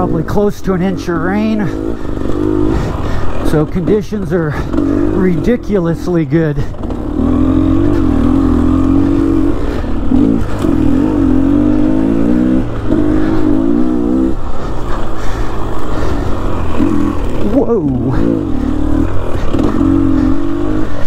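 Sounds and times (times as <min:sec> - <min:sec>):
dirt bike engine under throttle: 0:00.0 - 0:21.0.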